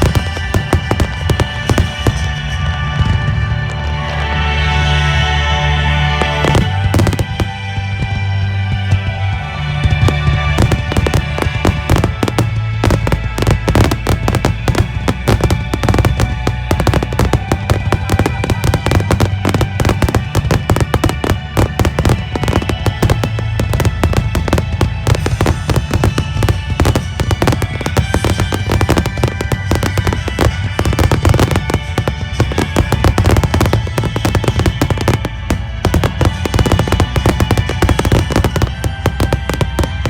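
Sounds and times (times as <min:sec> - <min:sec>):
fireworks bursting: 0:00.0 - 0:04.3, 0:06.1 - 0:40.0
music playing: 0:00.0 - 0:40.0.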